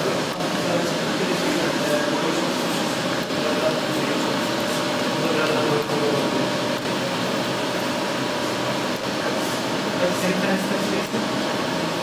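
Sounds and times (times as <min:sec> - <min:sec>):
printer machine hum: 0:00.0 - 0:12.0.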